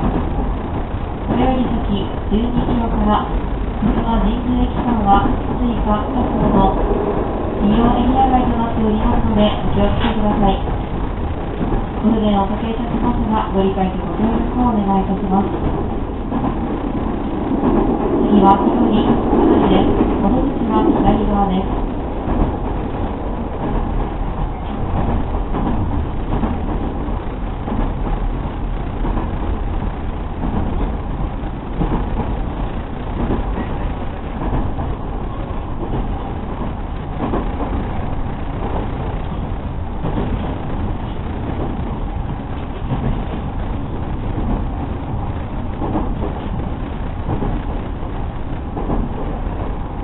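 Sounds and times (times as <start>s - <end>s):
train wheels rumbling on track: 0.0s - 50.0s.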